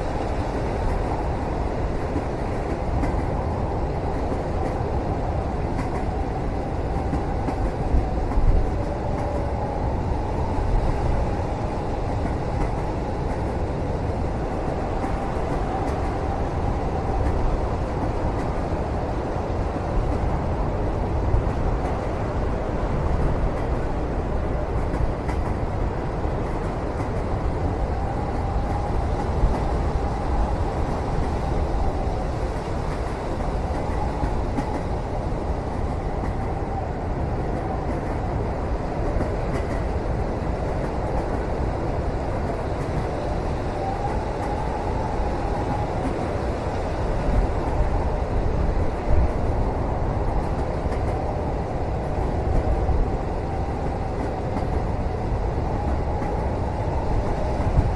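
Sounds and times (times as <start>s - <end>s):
train running gear rumble: 0.0s - 57.9s.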